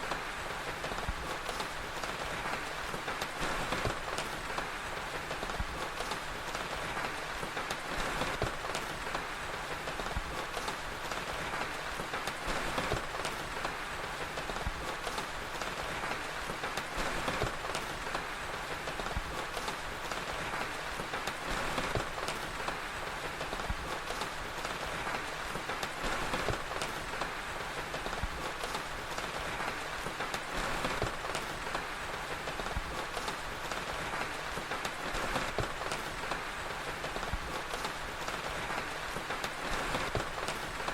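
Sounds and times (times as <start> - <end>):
fire crackling: 0.0 - 40.9
steady rain: 0.0 - 40.9.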